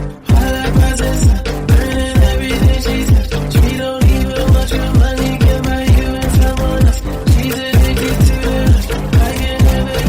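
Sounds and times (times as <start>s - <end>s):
sustained synth tones: 0.0s - 10.0s
deep kick drum: 0.3s - 10.0s.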